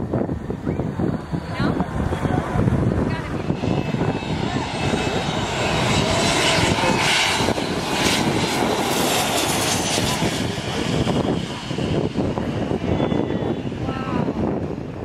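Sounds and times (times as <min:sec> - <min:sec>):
jet passing low overhead: 0:00.0 - 0:15.0.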